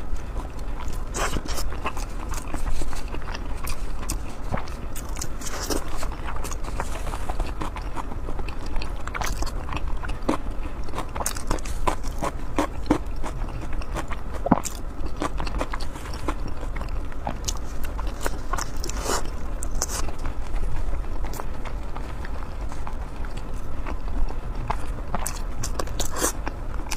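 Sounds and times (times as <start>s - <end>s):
steady low hum: 0.0s - 26.9s
chewing with smacking clicks: 0.1s - 26.9s.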